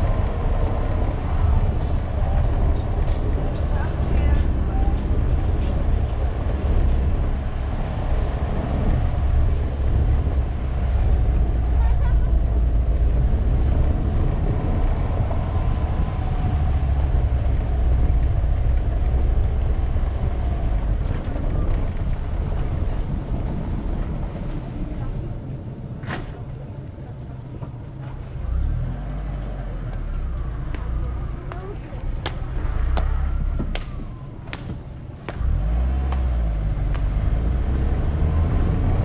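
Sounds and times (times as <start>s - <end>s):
tyres rumbling on cobblestones: 0.0s - 39.0s.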